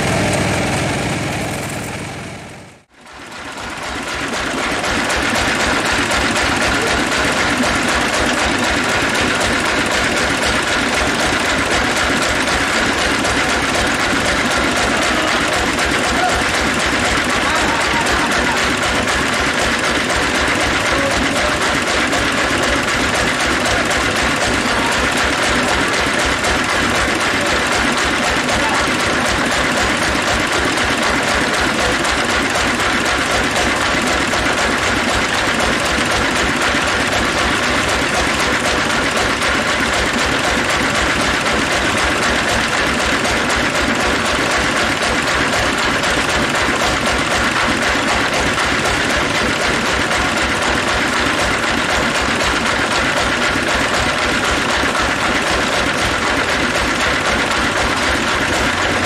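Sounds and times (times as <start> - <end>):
bandsaw machinery running: 0.0 - 59.0.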